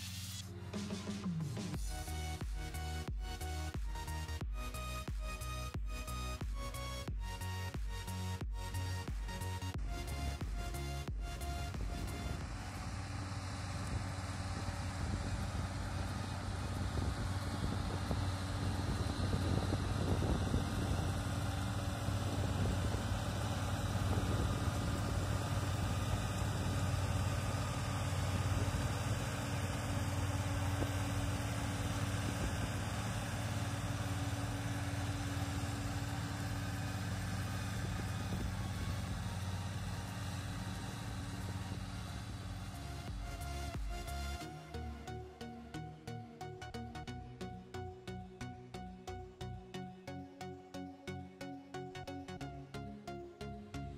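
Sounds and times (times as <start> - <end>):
tractor diesel engine running: 0.5 - 47.0.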